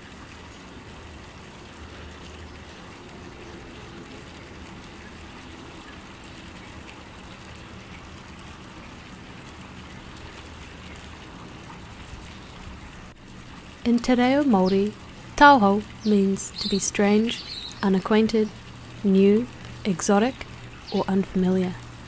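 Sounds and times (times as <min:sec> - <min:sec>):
even outdoor hiss: 0:00.0 - 0:22.0.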